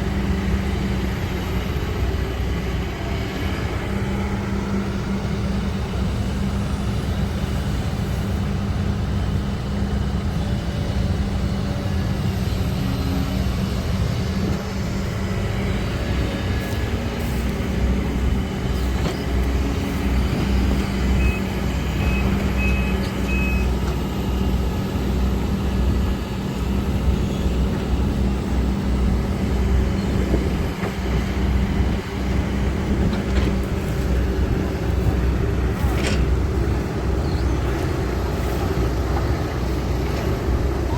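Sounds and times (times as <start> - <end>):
diesel machinery engine running: 0.0 - 40.9.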